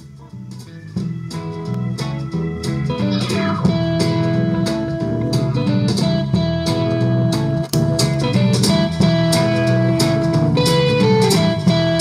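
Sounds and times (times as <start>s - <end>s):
blues music on radio loudspeaker: 0.0s - 12.0s.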